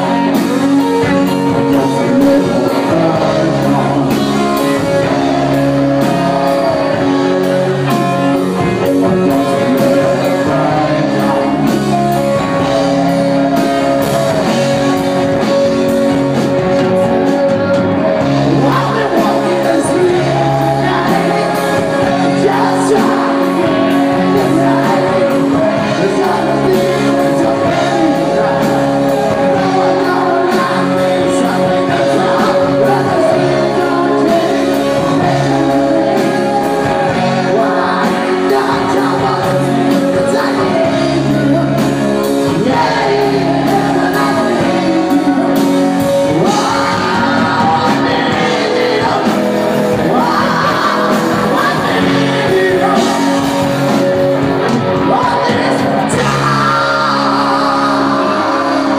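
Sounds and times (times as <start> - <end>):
bass guitar: 0.0 - 58.9
electric guitars: 0.0 - 58.9
man singing: 0.0 - 58.9.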